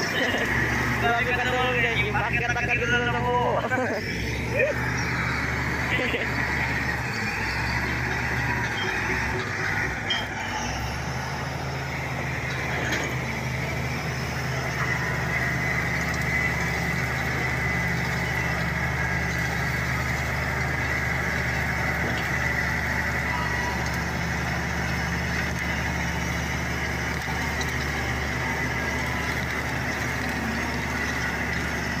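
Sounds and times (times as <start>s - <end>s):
bulldozer diesel engine running: 0.0s - 32.0s
bulldozer pushing through brush: 0.0s - 32.0s.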